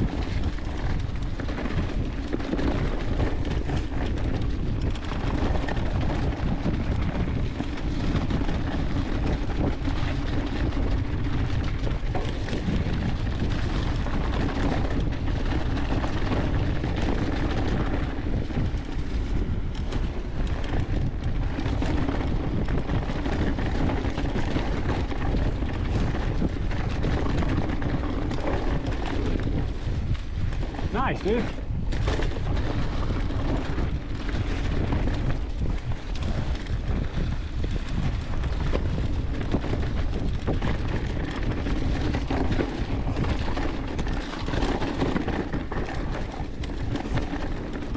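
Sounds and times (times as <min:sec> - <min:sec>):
bike tyres rolling through leaves: 0:00.0 - 0:47.9
wind buffeting microphone: 0:00.0 - 0:47.9.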